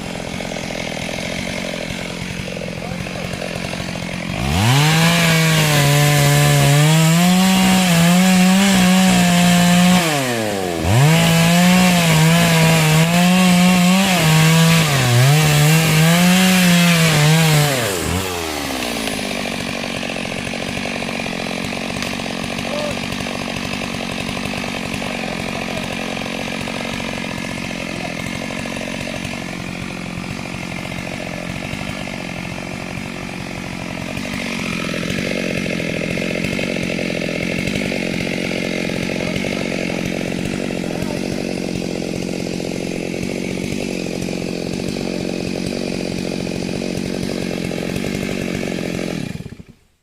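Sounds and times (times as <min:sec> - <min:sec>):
chainsaw engine running: 0:00.0 - 0:49.9.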